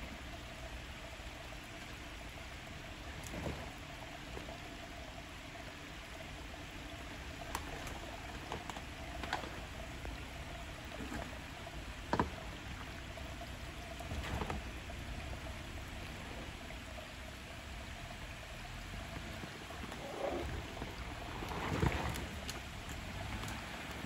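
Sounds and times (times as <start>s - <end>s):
distant engine running low: 0.0s - 24.0s.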